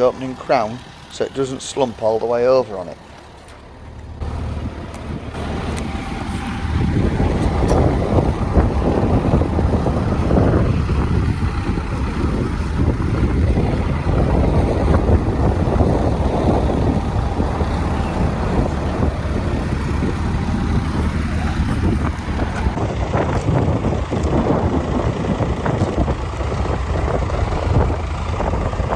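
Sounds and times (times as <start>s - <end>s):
tractor engine running under load: 0.0s - 28.9s.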